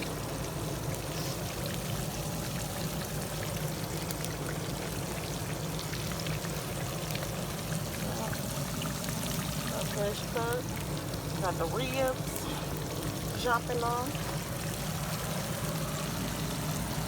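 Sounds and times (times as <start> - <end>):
fish deep-frying sizzle: 0.0 - 17.0.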